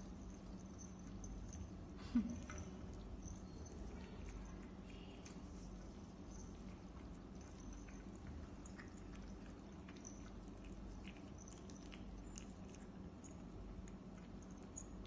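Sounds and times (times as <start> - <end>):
cat chewing wet food: 0.0 - 15.0
steady low hum: 0.0 - 15.0.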